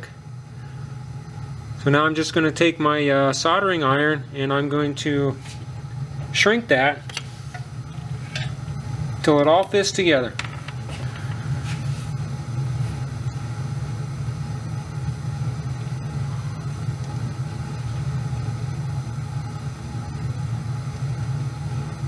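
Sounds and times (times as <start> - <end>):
low machine rumble: 0.0 - 22.0.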